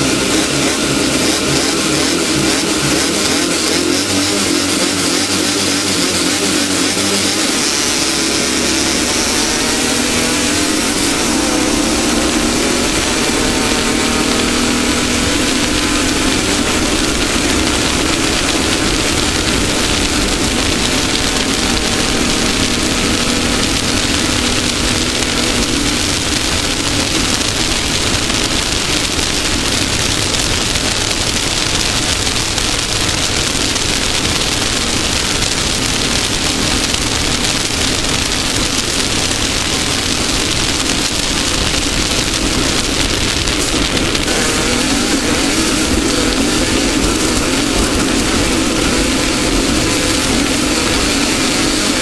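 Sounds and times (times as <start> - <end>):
constant rushing noise: 0.0 - 52.0
race car engine running: 0.0 - 52.0.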